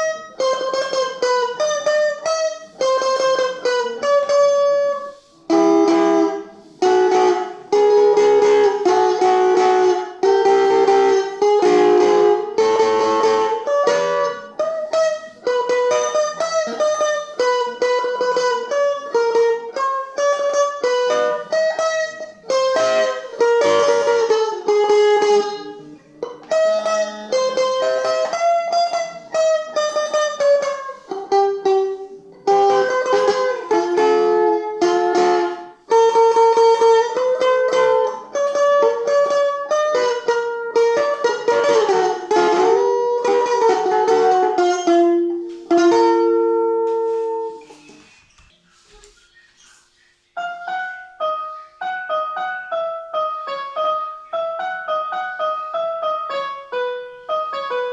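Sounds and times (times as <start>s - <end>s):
plucked string instrument melody: 0.0s - 57.9s.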